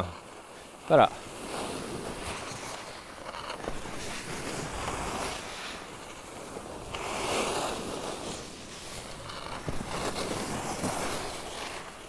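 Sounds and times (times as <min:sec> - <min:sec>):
skis scraping over snow: 0:00.0 - 0:12.0.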